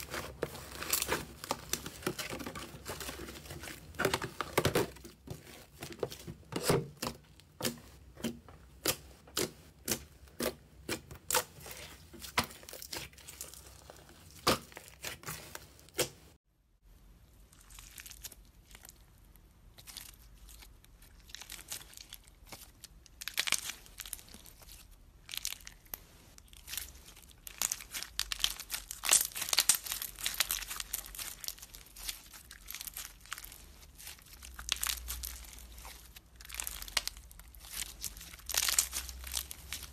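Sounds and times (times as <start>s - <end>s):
beaded slime crunchy crackle: 0.0s - 16.1s, 17.5s - 39.9s.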